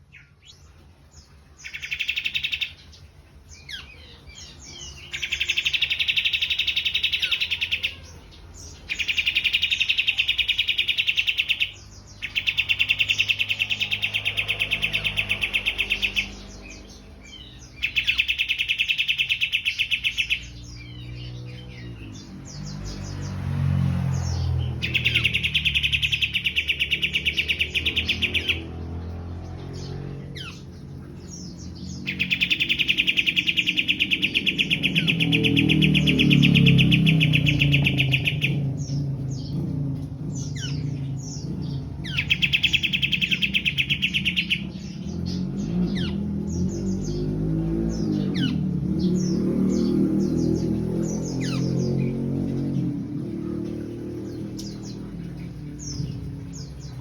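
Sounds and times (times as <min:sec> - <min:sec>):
songbirds singing rattling trill: 0:00.0 - 0:57.0.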